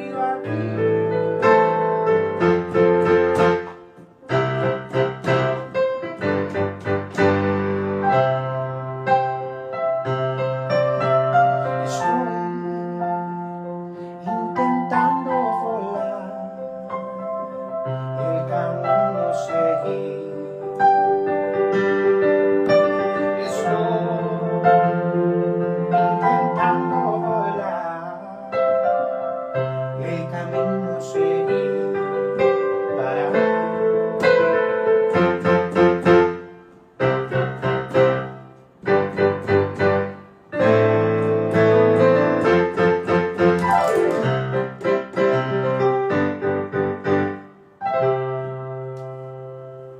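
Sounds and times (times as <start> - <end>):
piano playing: 0.0 - 49.9.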